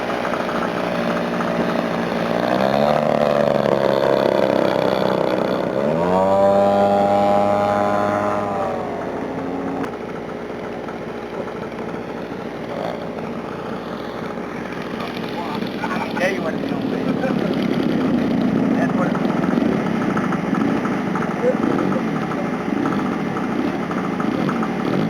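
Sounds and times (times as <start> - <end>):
model airplane engine and propeller: 0.0 - 25.0.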